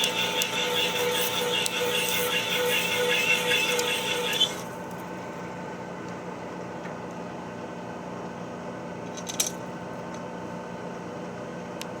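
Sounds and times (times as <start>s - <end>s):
metalworking machine humming: 0.0s - 11.6s.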